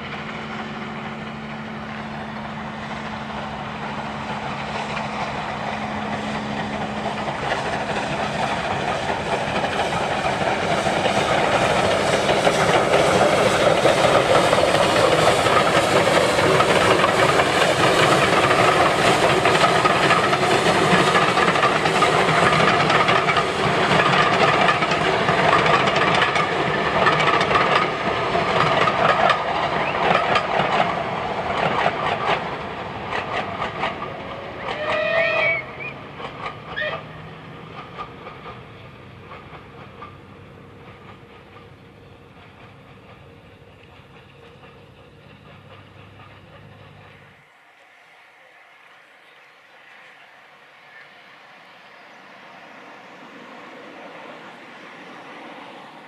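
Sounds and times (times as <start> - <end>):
steam hissing: 0.0 - 56.0
steam locomotive exhaust beat: 0.0 - 56.0
train wheels clacking on rails: 0.0 - 56.0.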